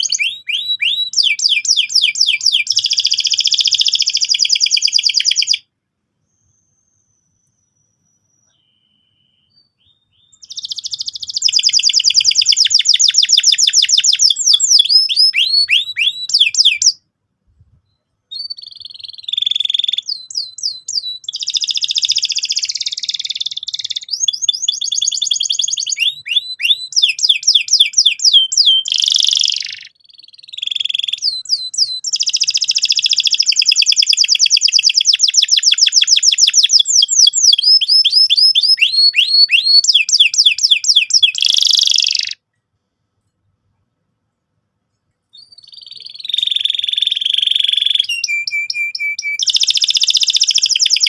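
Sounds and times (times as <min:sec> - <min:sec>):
canary singing trills: 0:00.0 - 0:05.6, 0:06.3 - 0:17.0, 0:18.0 - 0:42.4, 0:45.3 - 0:51.0.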